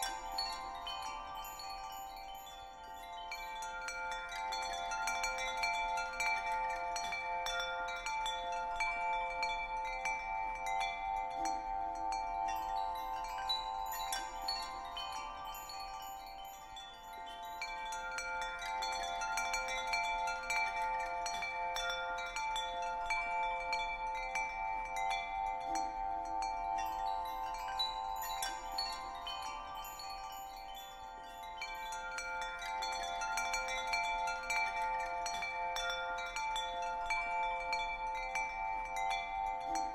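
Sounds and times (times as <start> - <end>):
tinkling chimes: 0.0 - 39.9.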